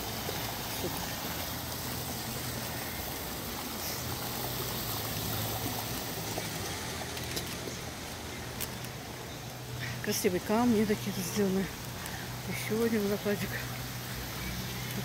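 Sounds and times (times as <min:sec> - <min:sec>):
water splashing over stones: 0:00.0 - 0:15.0.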